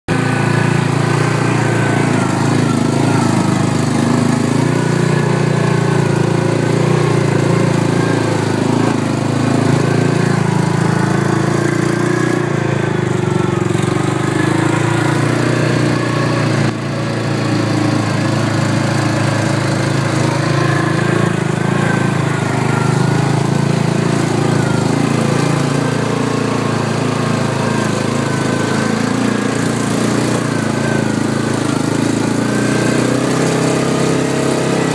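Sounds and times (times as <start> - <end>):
vehicle engine running off-road: 0.0 - 34.9.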